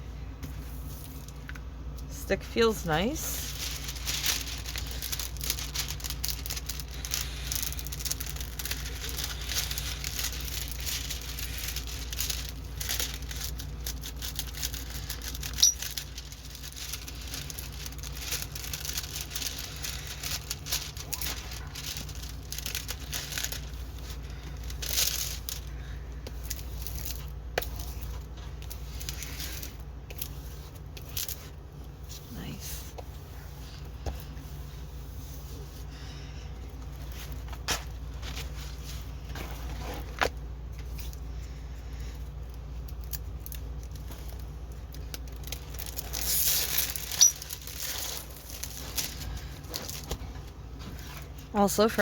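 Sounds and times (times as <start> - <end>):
plastic packaging crinkling: 0.9 - 32.6, 36.5 - 41.3, 42.1 - 52.0.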